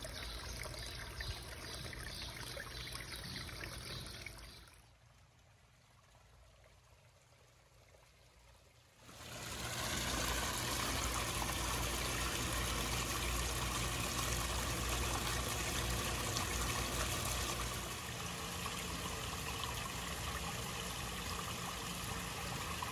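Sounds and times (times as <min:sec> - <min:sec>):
small waterfall trickling and splashing: 0:00.0 - 0:22.9.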